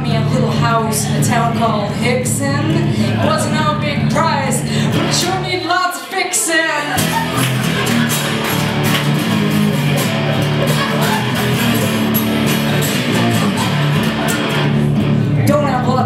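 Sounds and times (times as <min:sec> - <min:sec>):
acoustic guitar strumming: 0:00.0 - 0:06.2, 0:06.9 - 0:15.5.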